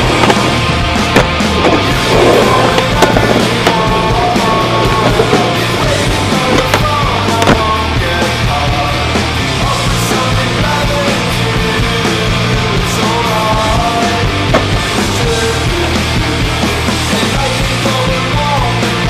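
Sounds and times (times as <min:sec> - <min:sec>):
punk rock music: 0:00.0 - 0:19.0.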